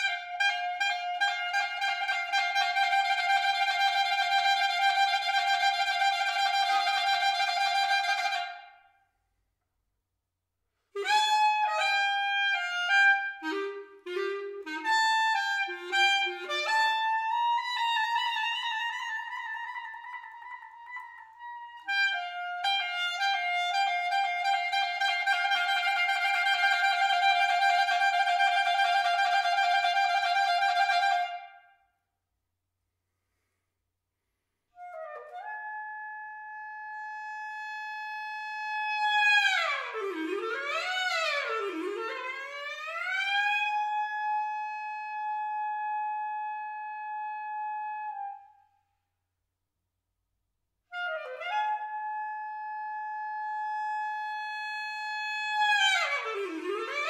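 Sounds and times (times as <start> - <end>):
solo clarinet playing: 0.0 - 8.8, 11.0 - 31.7, 34.8 - 48.7, 50.9 - 57.0.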